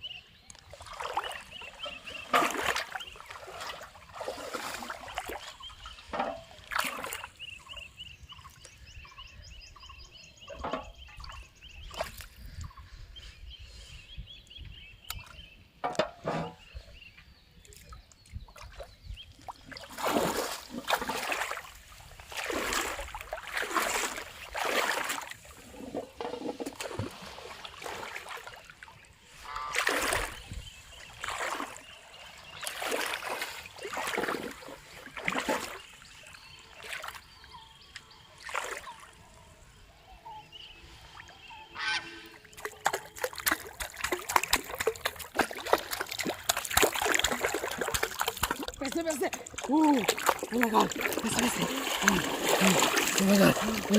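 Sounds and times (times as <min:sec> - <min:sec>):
water splashing and sloshing: 0:00.0 - 0:09.0, 0:09.9 - 0:12.8, 0:15.0 - 0:16.9, 0:17.6 - 0:53.9.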